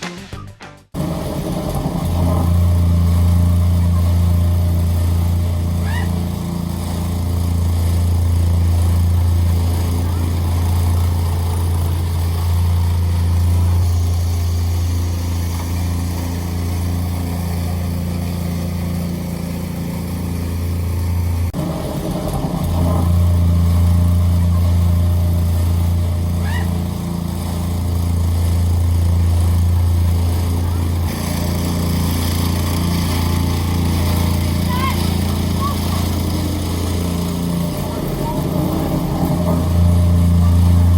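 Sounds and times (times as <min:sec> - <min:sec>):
plate compactor running: 0:00.9 - 0:40.9.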